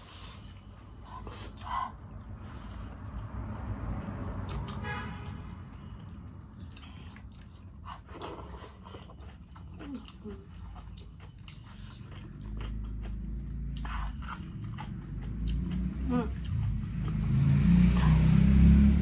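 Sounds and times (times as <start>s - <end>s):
people chewing and biting: 0.0s - 18.8s.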